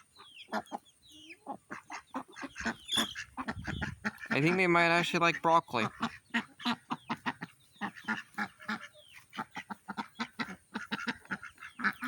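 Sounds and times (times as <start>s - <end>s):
ducks and poultry calling: 0.0s - 12.0s.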